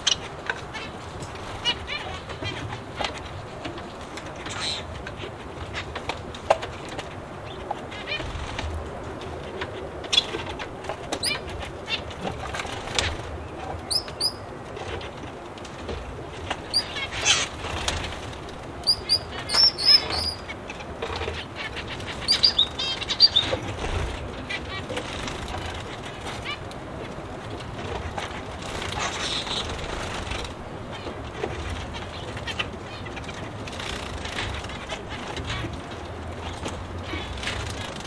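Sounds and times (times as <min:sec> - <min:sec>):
aviary birds chirping: 0:00.0 - 0:38.0
steady low background noise: 0:00.0 - 0:38.0.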